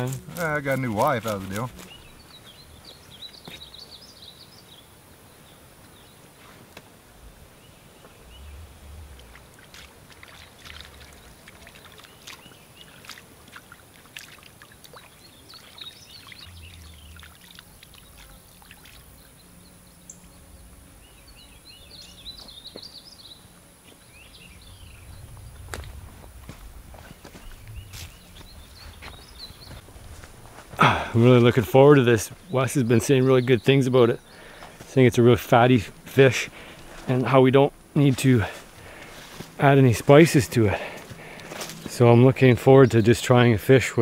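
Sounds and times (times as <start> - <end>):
birds chirping: 0.0 - 6.4, 7.4 - 44.0.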